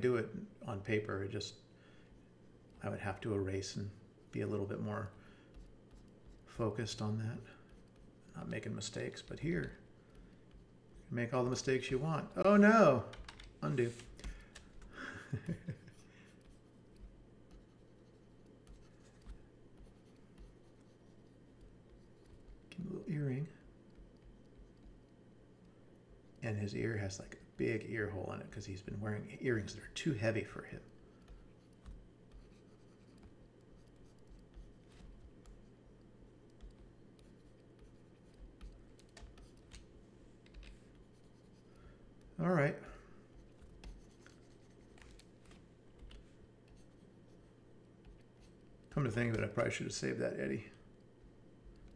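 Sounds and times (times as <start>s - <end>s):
low steady hum: 0.0s - 51.9s
stylus scratching on tablet: 2.2s - 12.4s, 15.4s - 27.9s, 29.3s - 42.4s, 43.3s - 49.8s.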